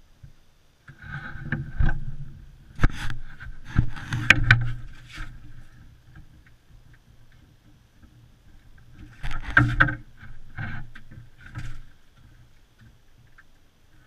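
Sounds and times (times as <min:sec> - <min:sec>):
sharp knocks and scrapes: 0:00.9 - 0:13.5.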